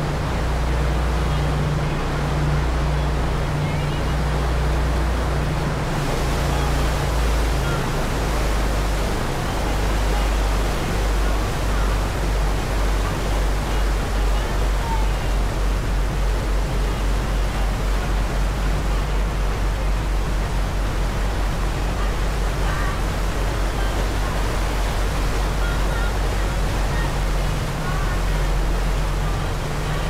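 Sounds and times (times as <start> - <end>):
churning wake water: 0.0 - 30.0
low engine rumble: 0.0 - 30.0.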